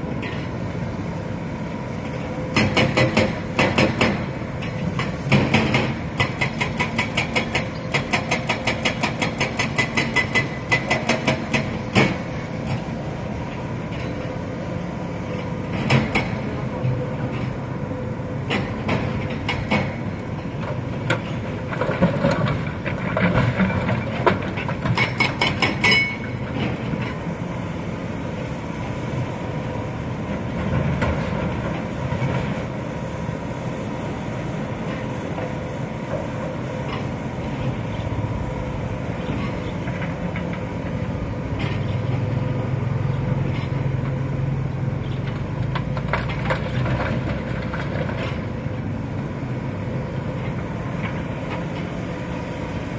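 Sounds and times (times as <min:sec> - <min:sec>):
excavator engine and hydraulics: 0:00.0 - 0:52.9.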